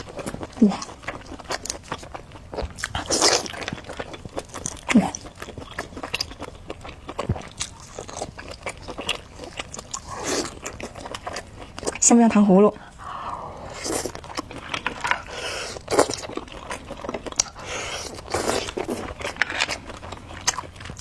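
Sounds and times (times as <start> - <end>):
crunchy bites and chewing: 0.0 - 12.0, 13.6 - 21.0.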